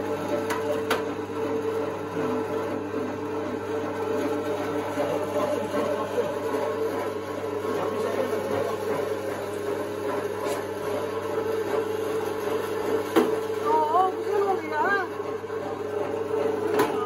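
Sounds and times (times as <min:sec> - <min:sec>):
electric meat grinder motor humming: 0:00.0 - 0:17.0.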